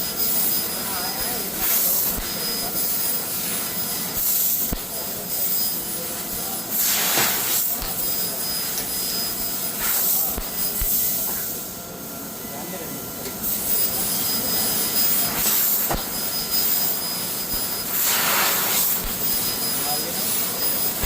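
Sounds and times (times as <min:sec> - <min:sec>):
laser cutter gas hissing: 0:00.0 - 0:21.0.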